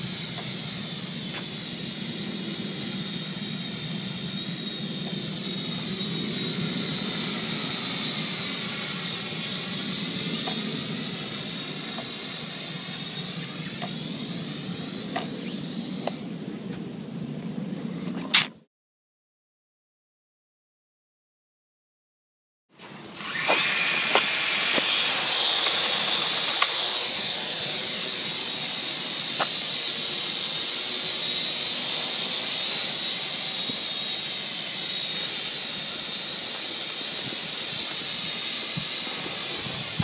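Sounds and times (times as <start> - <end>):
quadcopter motors whining: 0.0 - 18.4, 23.0 - 40.0.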